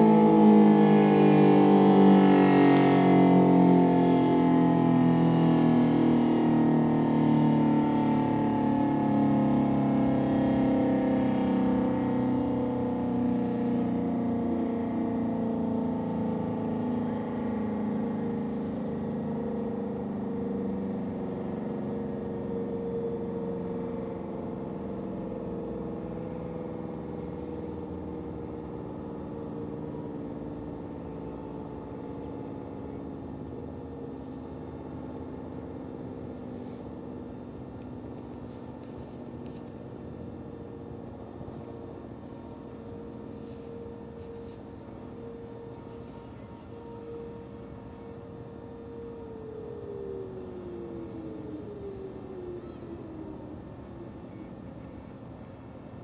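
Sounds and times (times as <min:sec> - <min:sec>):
warning siren winding down: 0:00.0 - 0:56.0.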